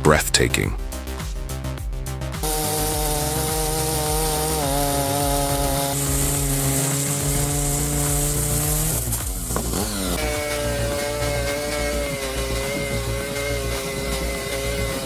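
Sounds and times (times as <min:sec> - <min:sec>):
chainsaw cutting a log: 0:02.4 - 0:15.0.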